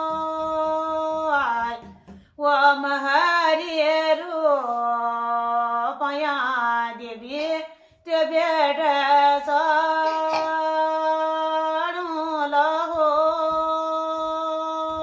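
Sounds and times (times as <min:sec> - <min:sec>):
woman singing a hymn unaccompanied: 0:00.0 - 0:15.0.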